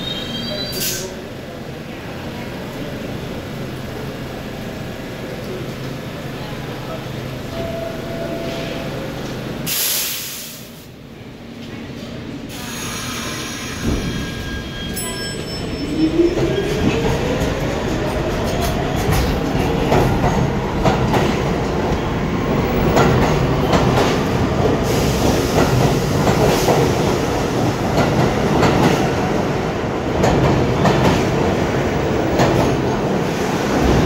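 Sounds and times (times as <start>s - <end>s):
subway train rumbling past: 0.0s - 34.0s.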